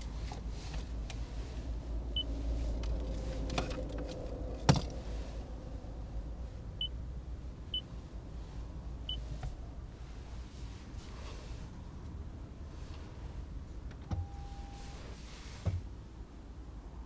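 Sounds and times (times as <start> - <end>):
low cabin rumble: 0.0 - 16.1.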